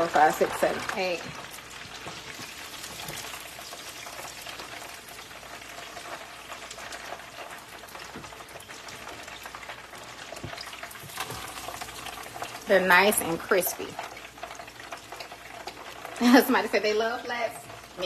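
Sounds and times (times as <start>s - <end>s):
chicken deep-frying in oil: 0.0s - 18.0s.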